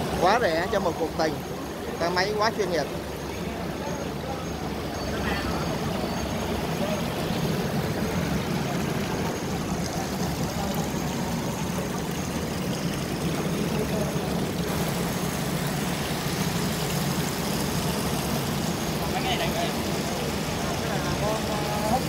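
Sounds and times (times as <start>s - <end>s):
machinery running hum: 0.0s - 22.0s.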